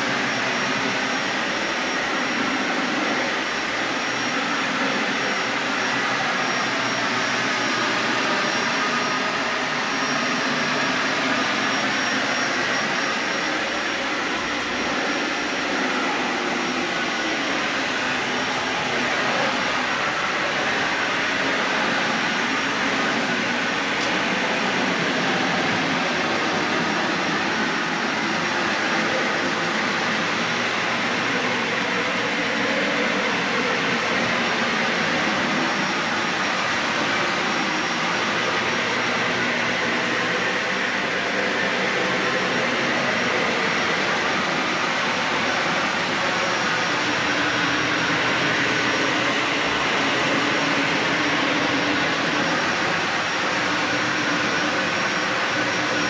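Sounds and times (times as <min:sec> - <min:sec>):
faint high whine: 0:00.0 - 0:56.0
vacuum cleaner running on carpet: 0:00.0 - 0:56.0.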